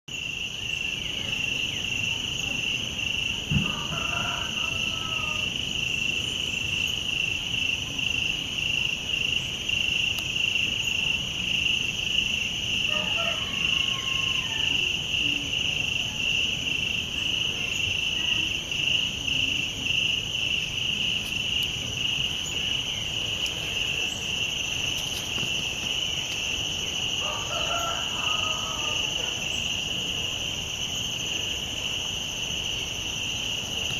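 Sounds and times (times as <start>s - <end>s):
frogs calling: 0.1s - 33.9s
insects trilling: 0.1s - 33.9s.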